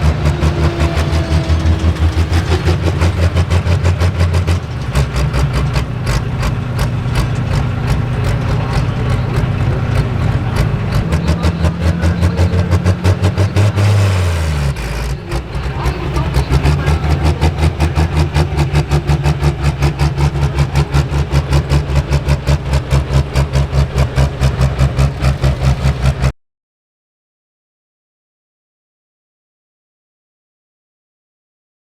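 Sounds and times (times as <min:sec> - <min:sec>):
turbocharged diesel engine pulsing: 0:00.0 - 0:26.3.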